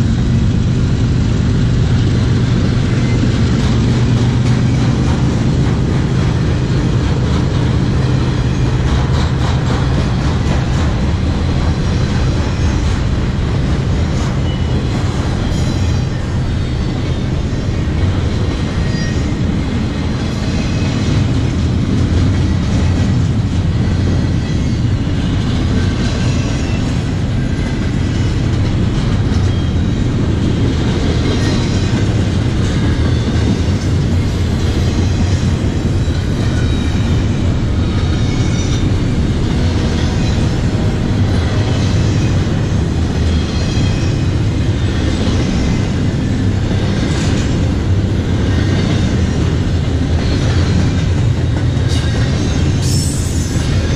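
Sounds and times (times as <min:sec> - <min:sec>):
freight train wheels rumbling on rails: 0:00.0 - 0:53.9.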